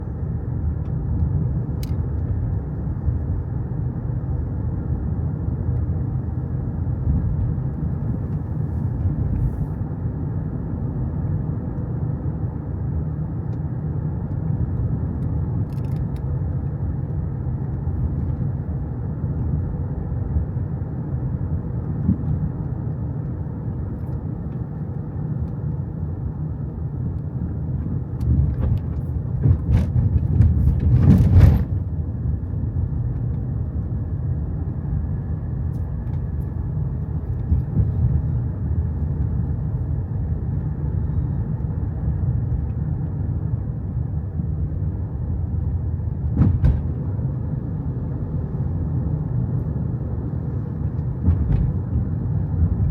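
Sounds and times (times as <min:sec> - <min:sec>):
moving car rumble: 0:00.0 - 0:52.9.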